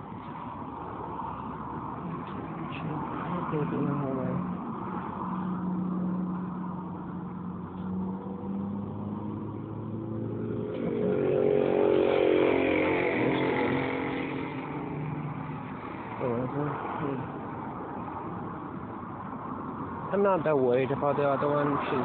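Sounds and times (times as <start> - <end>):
motor vehicle engine hum: 0.0 - 22.0
vehicle passing: 0.0 - 22.0.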